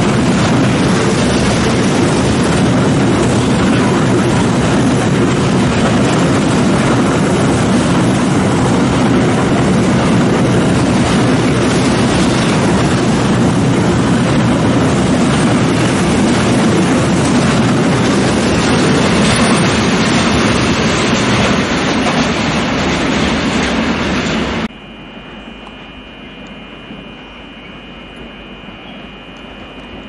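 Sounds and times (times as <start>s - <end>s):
train wheels rumbling on rail: 0.0s - 24.7s
high-pitched whine: 0.0s - 30.0s.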